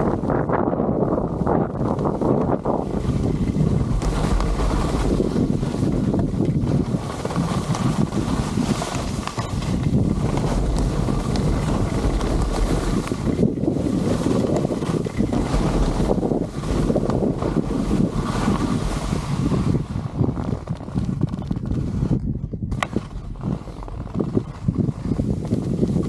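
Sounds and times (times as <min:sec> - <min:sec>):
skis sliding over snow: 0:00.0 - 0:26.0
wind buffeting microphone: 0:00.0 - 0:26.0.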